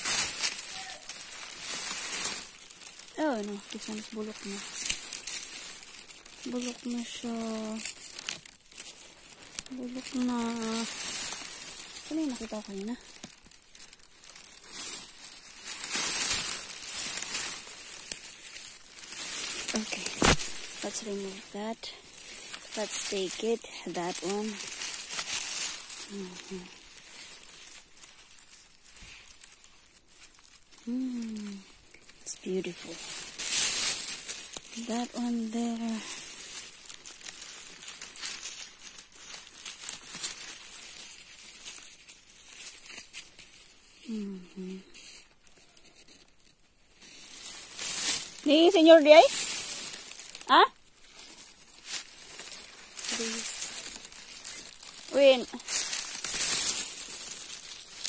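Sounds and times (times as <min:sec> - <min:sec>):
dry leaves rustling: 0:00.0 - 0:58.0.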